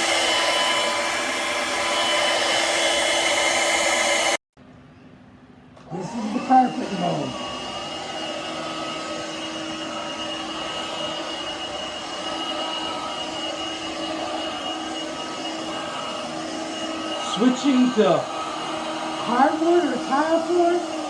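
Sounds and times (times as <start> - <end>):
stick vacuum motor whine: 0.0 - 4.4, 5.8 - 21.0.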